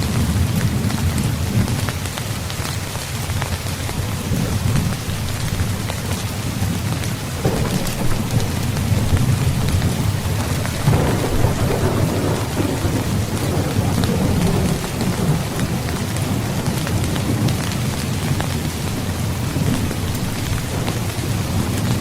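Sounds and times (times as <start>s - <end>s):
heavy rain: 0.0s - 22.0s
low rumble of thunder: 4.0s - 22.0s.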